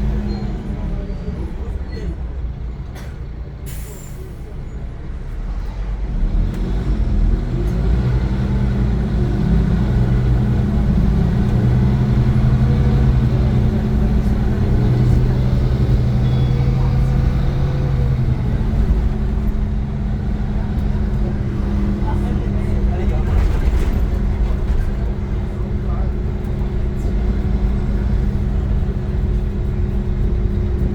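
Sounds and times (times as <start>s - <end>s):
bus diesel engine humming: 0.0s - 30.9s.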